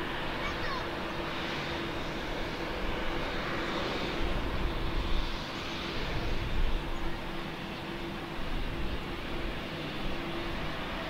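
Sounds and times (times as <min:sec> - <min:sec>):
jet engine hiss: 0:00.0 - 0:11.0.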